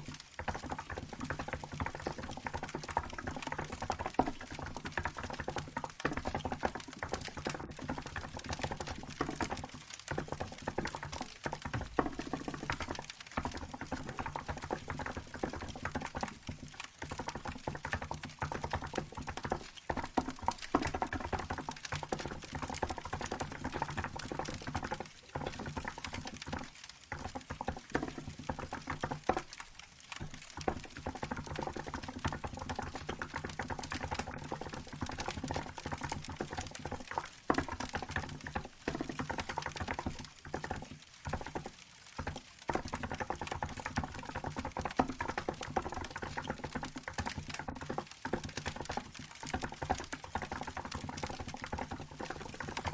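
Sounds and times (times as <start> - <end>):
fast typing on keyboard: 0.0 - 52.9.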